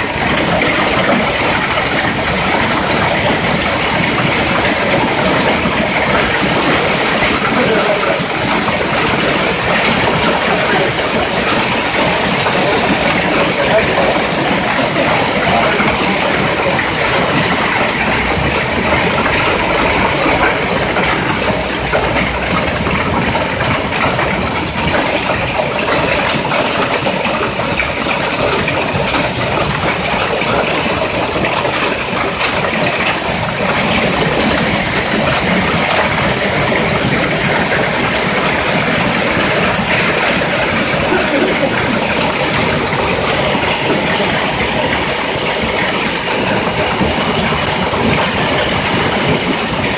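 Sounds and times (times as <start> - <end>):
hail and heavy rain pelting: 0.0 - 49.9.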